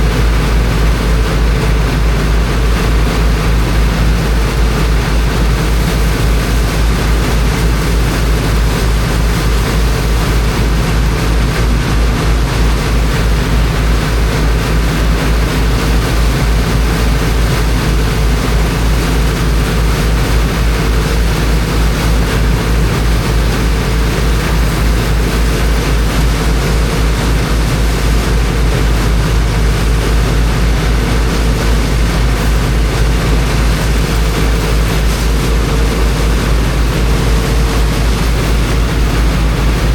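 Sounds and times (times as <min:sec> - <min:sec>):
water pump engine droning: 0:00.0 - 0:39.9.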